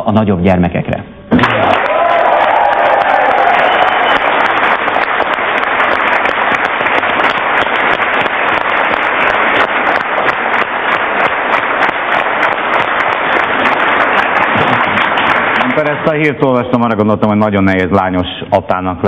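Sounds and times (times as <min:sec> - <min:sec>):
audience applauding: 0:01.4 - 0:17.0.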